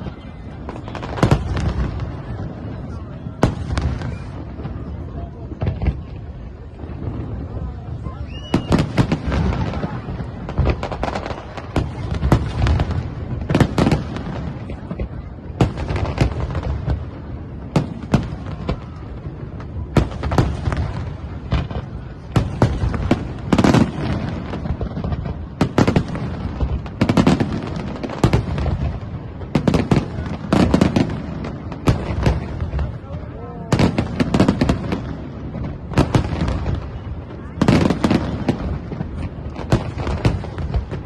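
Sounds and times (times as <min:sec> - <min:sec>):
fireworks bangs and booms: 0:00.0 - 0:41.0.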